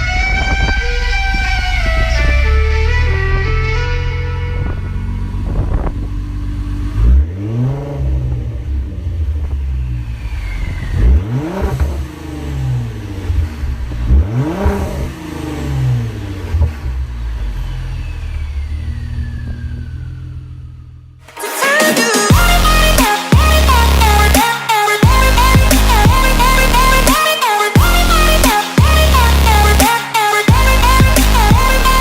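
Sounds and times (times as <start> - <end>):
car engine revving: 0.0 - 21.3, 22.3 - 32.0.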